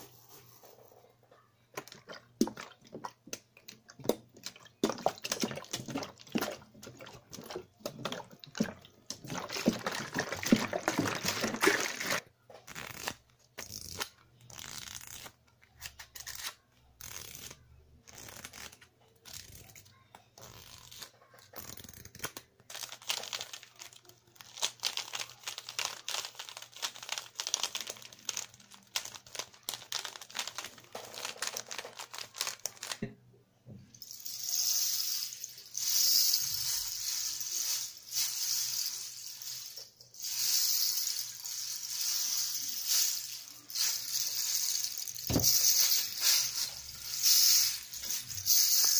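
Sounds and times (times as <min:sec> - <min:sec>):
crackling and rustling object: 0:00.0 - 0:33.2, 0:35.3 - 0:48.9.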